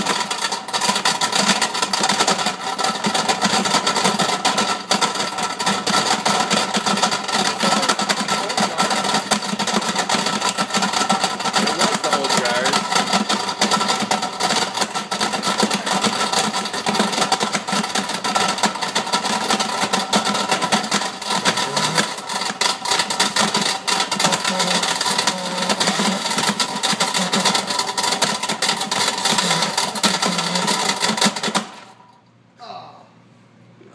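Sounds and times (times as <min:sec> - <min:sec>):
blender motor hum: 0:00.0 - 0:31.9
steel balls rattling in blender jar: 0:00.0 - 0:32.1.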